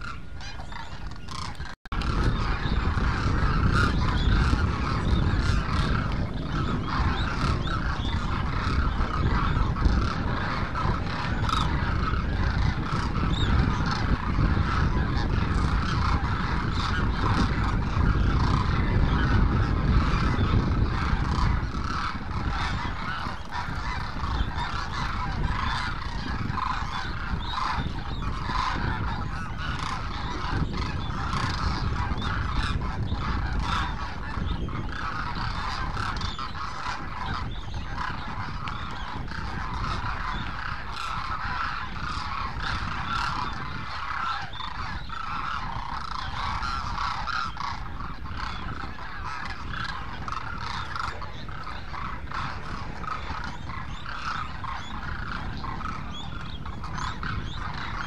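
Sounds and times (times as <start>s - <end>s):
cranes calling: 0.0s - 58.0s.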